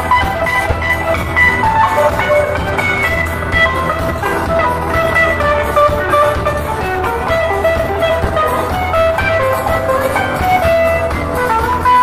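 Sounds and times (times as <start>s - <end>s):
live band playing reel: 0.0s - 12.0s.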